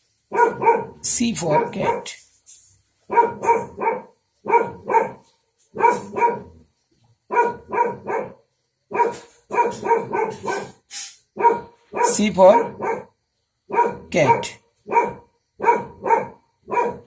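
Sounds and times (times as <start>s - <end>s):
dog barking: 0.3s - 2.2s, 3.1s - 6.7s, 7.3s - 17.0s.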